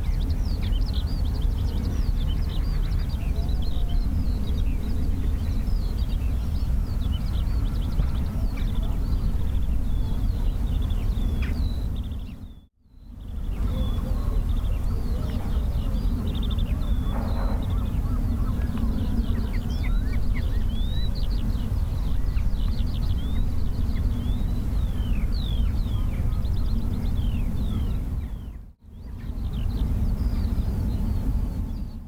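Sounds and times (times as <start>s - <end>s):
small birds chirping: 0.0s - 32.0s
steady low rumble: 0.0s - 32.0s.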